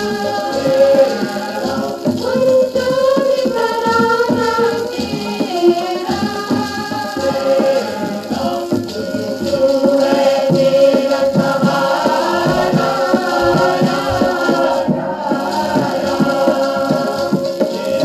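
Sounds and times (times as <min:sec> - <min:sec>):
choir singing a hymn: 0:00.0 - 0:18.0
percussion beat: 0:00.0 - 0:18.0.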